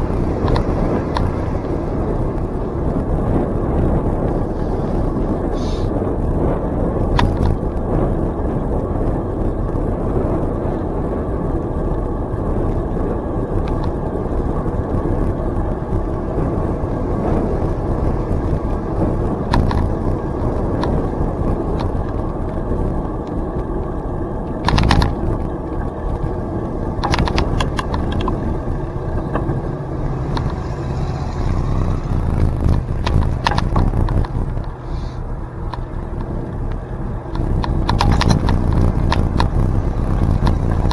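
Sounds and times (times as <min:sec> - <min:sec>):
sharp clicks and rattles: 0:00.0 - 0:08.3, 0:12.0 - 0:40.9
wind rushing: 0:00.0 - 0:23.8, 0:24.6 - 0:40.9
bicycle tyre noise on trail: 0:00.0 - 0:40.9.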